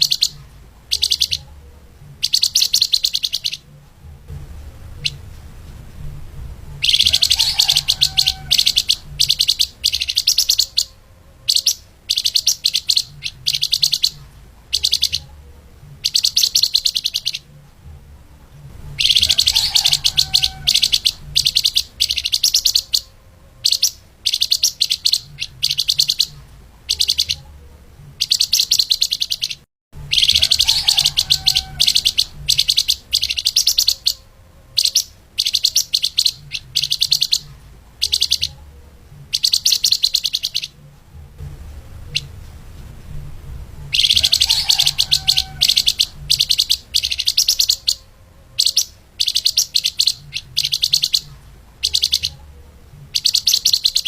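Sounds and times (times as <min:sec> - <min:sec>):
songbird twittering: 0:00.0 - 0:03.8, 0:04.9 - 0:05.3, 0:06.7 - 0:17.6, 0:18.8 - 0:27.6, 0:28.2 - 0:38.7, 0:39.3 - 0:40.8, 0:42.0 - 0:42.3, 0:43.9 - 0:52.5, 0:53.1 - 0:54.0.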